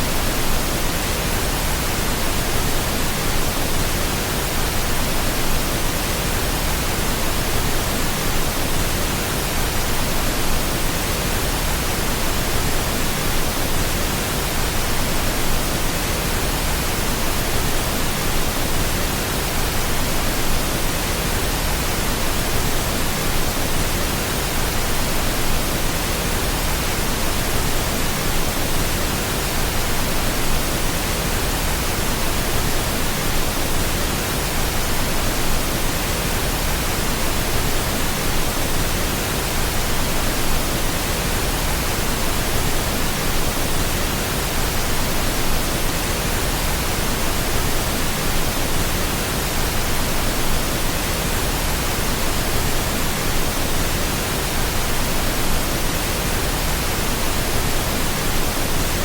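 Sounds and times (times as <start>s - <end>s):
pink noise hiss: 0.0s - 59.0s.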